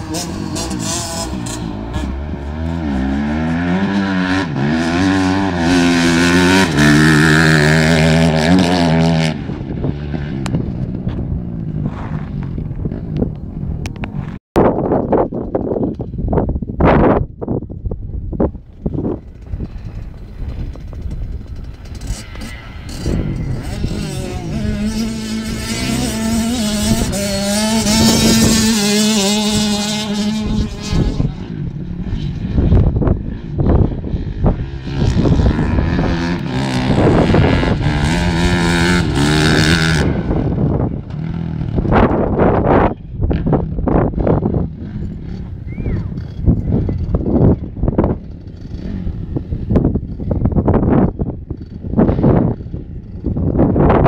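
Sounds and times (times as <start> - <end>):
motocross bike engine revving: 0.0 - 11.0, 18.9 - 54.0.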